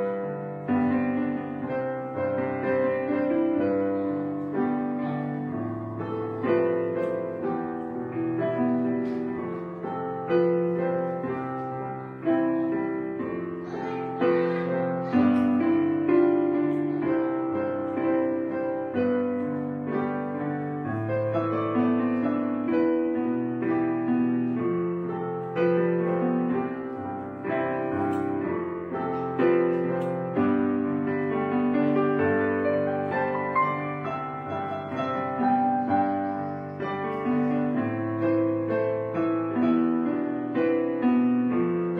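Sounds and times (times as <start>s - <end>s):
slow piano music: 0.0s - 41.9s.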